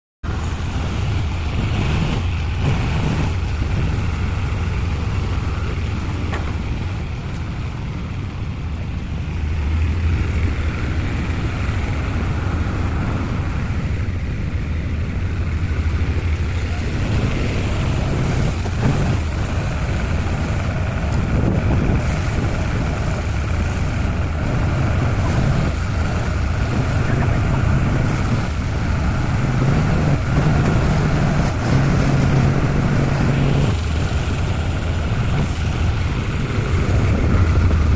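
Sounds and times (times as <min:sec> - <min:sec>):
engine droning: 0:00.2 - 0:37.9.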